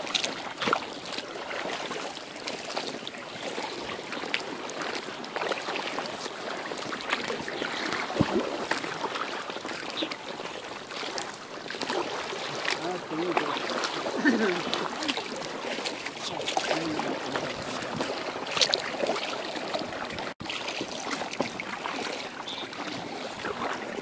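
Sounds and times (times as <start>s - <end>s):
paddle splashing water: 0.0s - 24.0s
water sloshing around kayak: 0.0s - 24.0s.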